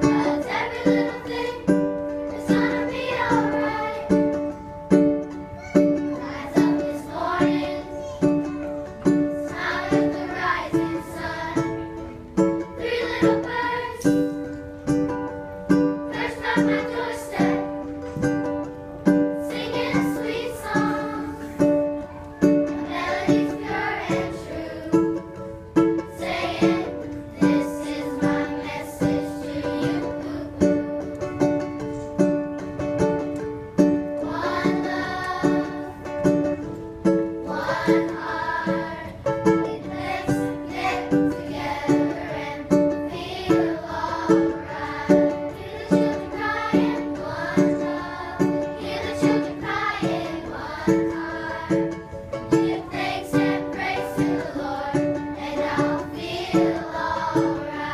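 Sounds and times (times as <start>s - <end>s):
children's choir singing: 0.0s - 57.9s
strummed acoustic guitar: 0.0s - 57.9s.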